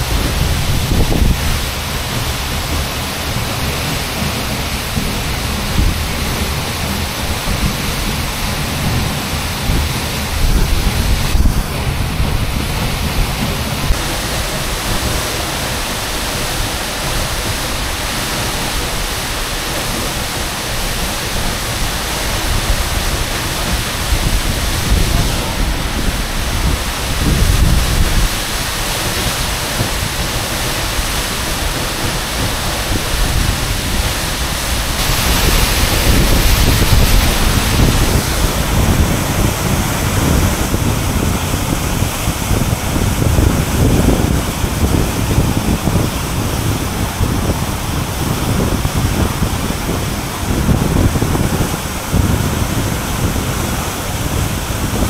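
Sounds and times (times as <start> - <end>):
deep rumbling: 0.0 - 55.0
waterfall rushing: 0.0 - 55.0.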